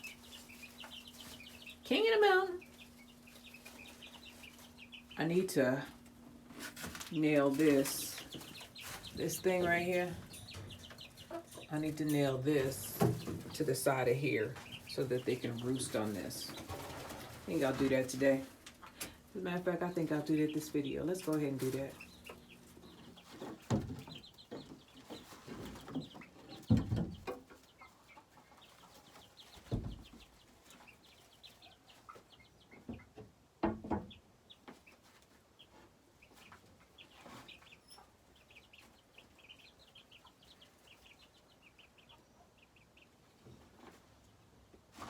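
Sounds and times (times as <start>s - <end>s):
chickens chirping: 0.0s - 45.0s.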